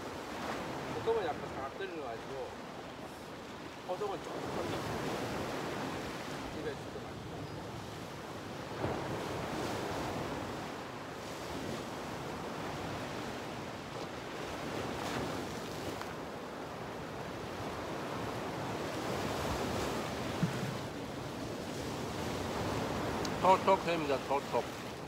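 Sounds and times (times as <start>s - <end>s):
waves breaking on rocks: 0.0s - 7.2s, 7.8s - 25.0s.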